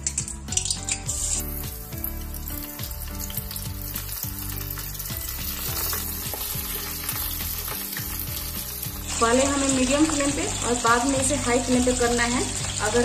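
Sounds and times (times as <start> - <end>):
corn kernels sizzling in hot oil: 0.0 - 13.0.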